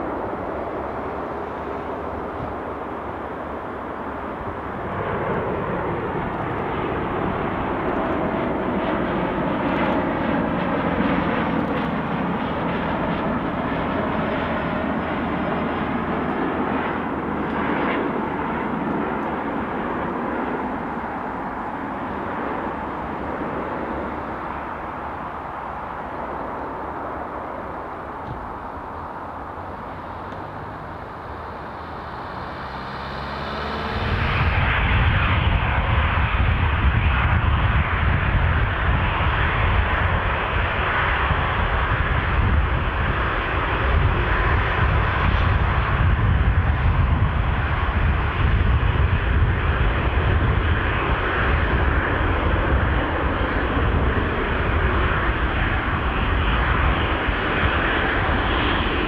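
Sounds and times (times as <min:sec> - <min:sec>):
jet engines roaring: 0:00.0 - 0:59.0
turboprop propeller drone: 0:00.0 - 0:59.0.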